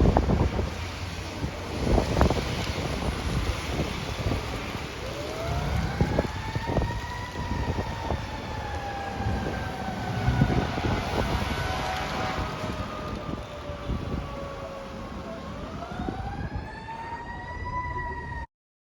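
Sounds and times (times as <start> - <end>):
wind on microphone: 0.0 - 17.1
fire engine siren: 0.0 - 18.5.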